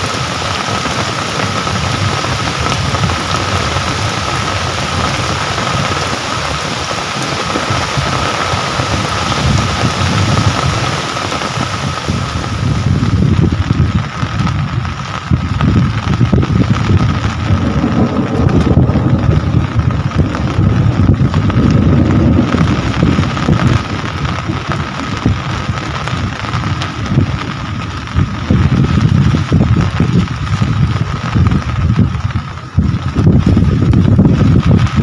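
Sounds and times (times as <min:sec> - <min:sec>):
rain falling: 0:00.0 - 0:35.0
wind buffeting microphone: 0:00.0 - 0:35.0.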